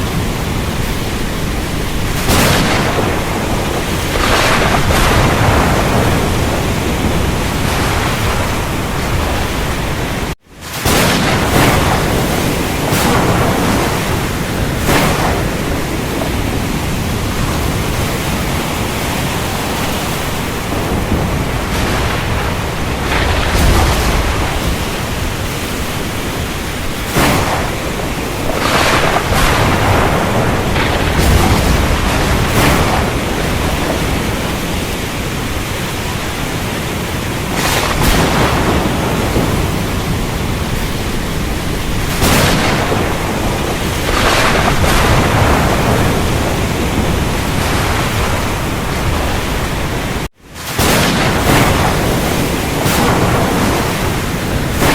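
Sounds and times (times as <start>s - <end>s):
deep thunder rumbling: 0.0s - 54.9s
heavy rain: 0.0s - 54.9s
sharp thunder cracks: 0.0s - 54.9s.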